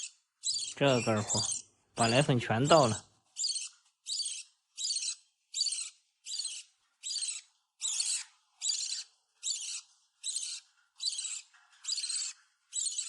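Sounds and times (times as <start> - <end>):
parrot chick squawking: 0.0 - 13.0.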